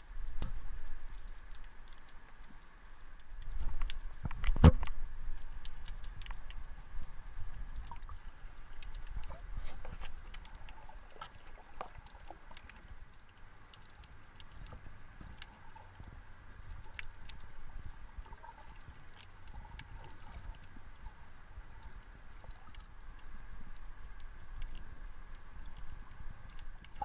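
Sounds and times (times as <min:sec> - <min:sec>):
sharp clicks and crackles: 0:00.0 - 0:27.0
underwater rumble of moving water: 0:00.0 - 0:27.0.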